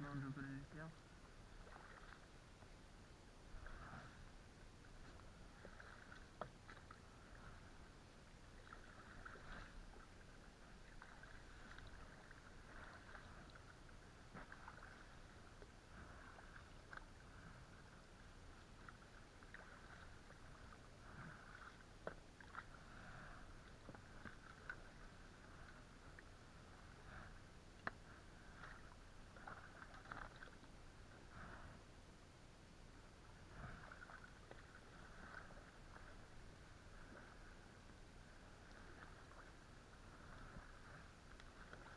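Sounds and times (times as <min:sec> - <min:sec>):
paddle swishing water: 0:00.9 - 0:31.9, 0:32.9 - 0:41.9.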